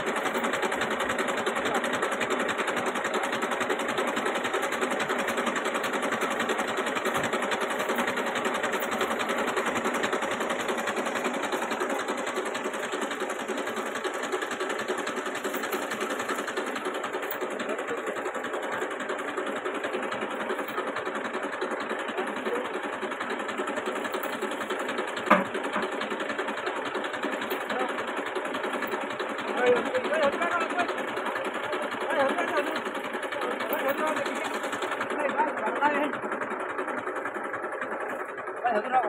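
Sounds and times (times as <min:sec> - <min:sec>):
tractor diesel engine idling: 0:00.0 - 0:39.0.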